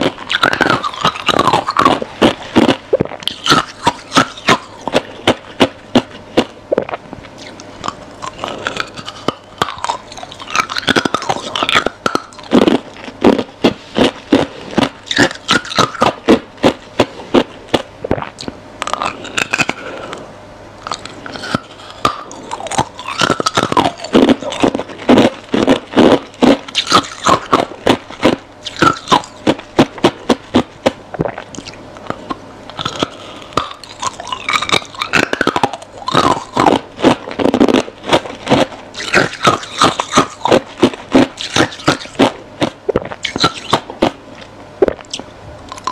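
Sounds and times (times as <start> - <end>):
ice being chewed: 0.0 - 20.2, 20.8 - 45.9.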